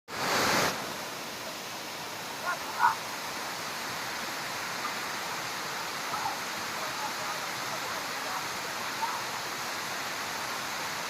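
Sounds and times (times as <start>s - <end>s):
waterfall rushing: 0.1s - 11.0s.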